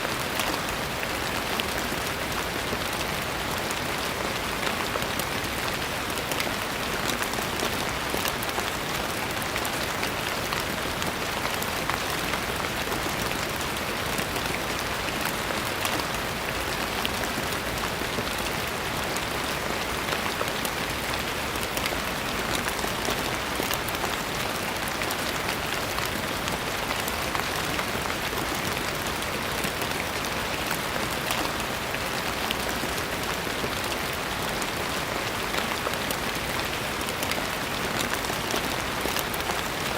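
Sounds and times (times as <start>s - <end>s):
raindrops pattering on surface: 0.0s - 39.9s
steady rain hiss: 0.0s - 39.9s.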